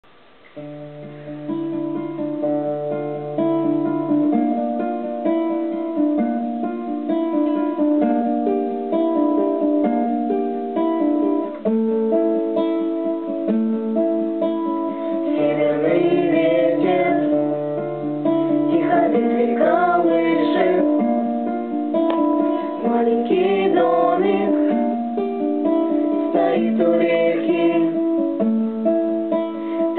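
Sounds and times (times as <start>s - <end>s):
acoustic guitar picking: 0.0s - 29.9s.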